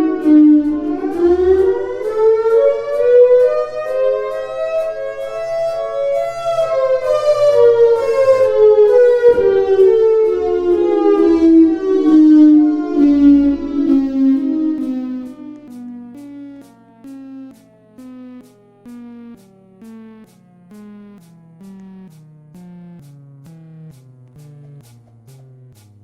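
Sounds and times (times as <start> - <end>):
siren wailing: 0.0 - 24.8.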